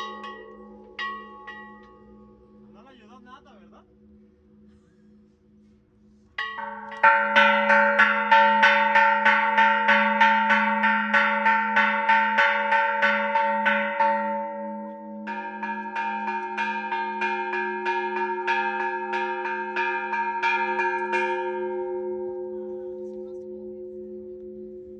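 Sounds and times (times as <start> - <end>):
church bells ringing rapidly: 0.0 - 3.6, 6.4 - 24.9.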